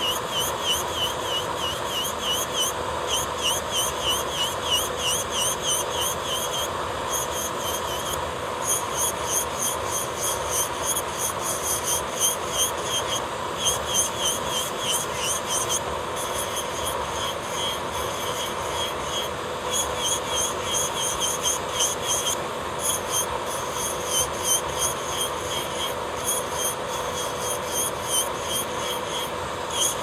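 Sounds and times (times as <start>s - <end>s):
electric nail drill grinding: 0.0s - 30.0s.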